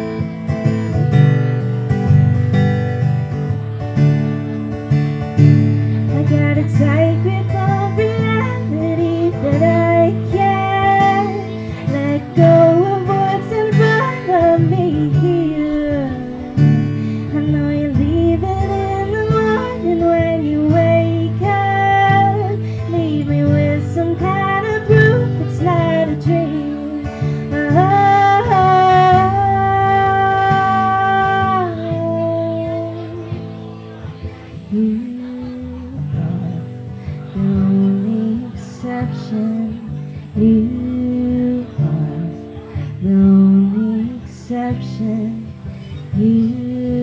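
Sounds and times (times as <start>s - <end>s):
acoustic guitar strumming: 0.0s - 47.0s
woman singing: 5.4s - 47.0s.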